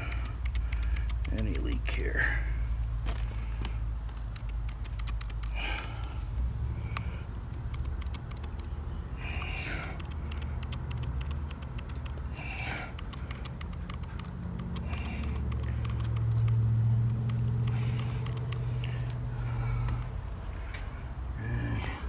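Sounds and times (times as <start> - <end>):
faint clicking: 0.0 - 1.9, 3.6 - 20.9
low mechanical hum: 0.0 - 22.0.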